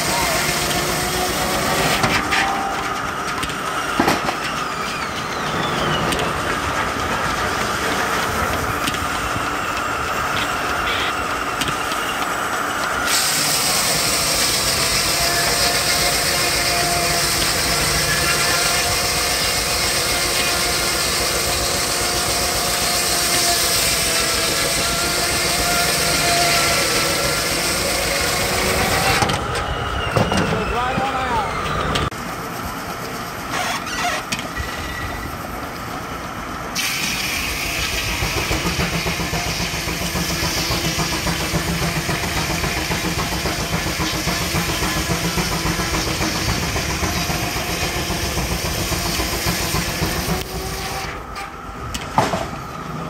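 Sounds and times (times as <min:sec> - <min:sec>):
loud steam hiss: 0:00.0 - 0:02.3, 0:03.6 - 0:51.8
sawmill whine: 0:00.0 - 0:53.0
steam traction engine running: 0:00.0 - 0:53.0.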